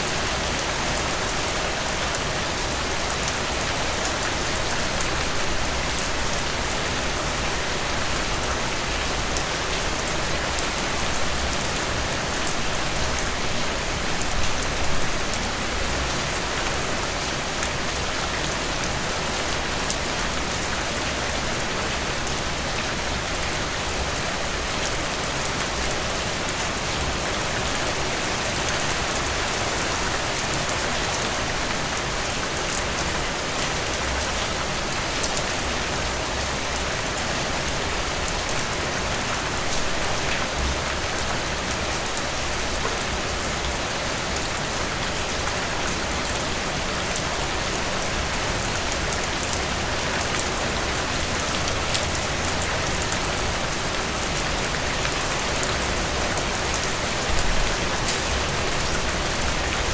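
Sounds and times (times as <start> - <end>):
steady rain hiss and patter: 0.0 - 59.9.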